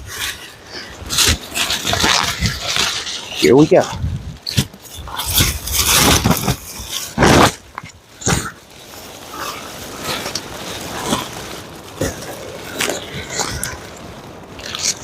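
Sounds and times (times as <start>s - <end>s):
foil sheet crinkling and rustling: 0.0s - 15.0s
loud crackles of foil sheet: 0.0s - 15.0s
wind pushing sheet: 0.0s - 15.0s.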